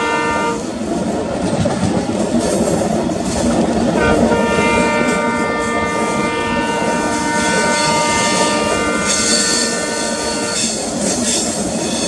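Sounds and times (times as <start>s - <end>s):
train rail and wheel noise: 0.0s - 12.0s.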